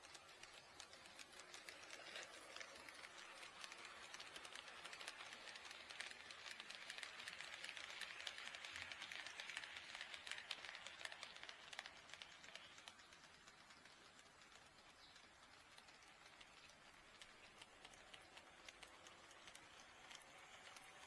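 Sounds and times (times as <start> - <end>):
light rolling hiss: 0.0 - 21.0
model train wheels clicking: 0.0 - 21.0.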